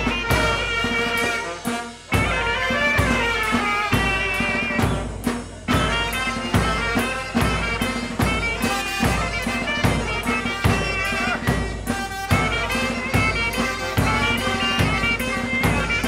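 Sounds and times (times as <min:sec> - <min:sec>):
brass band playing folk dance tune: 0:00.0 - 0:16.0
steady drum beat: 0:00.0 - 0:16.0.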